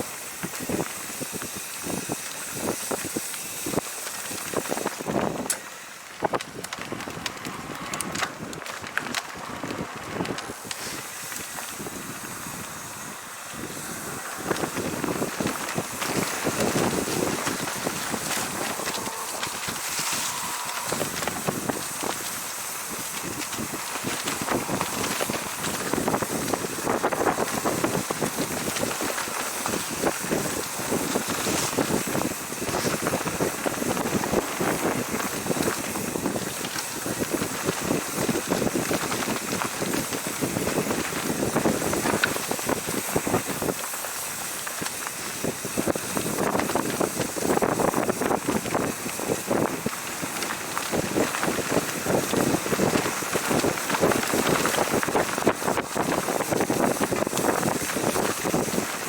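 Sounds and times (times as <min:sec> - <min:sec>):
bike rattling on rough trail: 0:00.0 - 0:59.0
wind buffeting microphone: 0:00.0 - 0:59.0.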